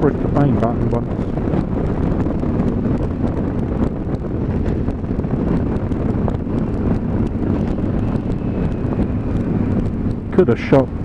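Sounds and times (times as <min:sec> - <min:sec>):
motorcycle engine drone: 0:00.0 - 0:11.0
wind buffeting microphone: 0:00.0 - 0:11.0.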